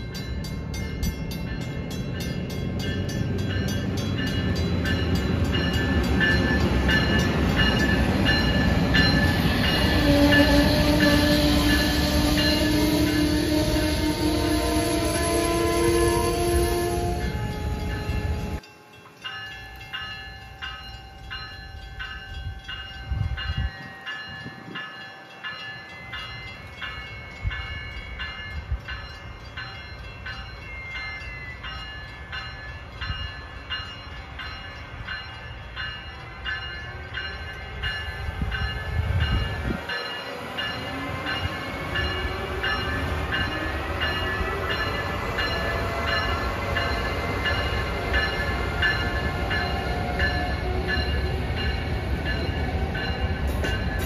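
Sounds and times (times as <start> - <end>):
crossing bell ringing: 0.0 - 54.0
electric locomotive whine: 0.0 - 54.0.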